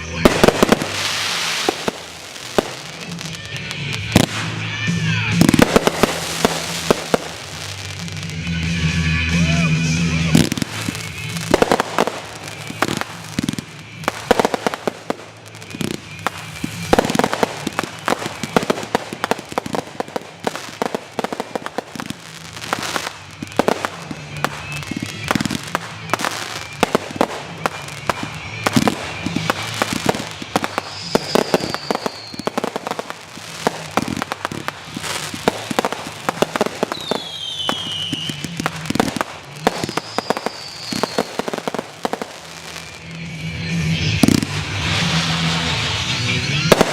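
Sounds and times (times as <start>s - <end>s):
firework shell whistling: 0.0s - 46.9s
fireworks bangs and crackling: 0.0s - 46.9s.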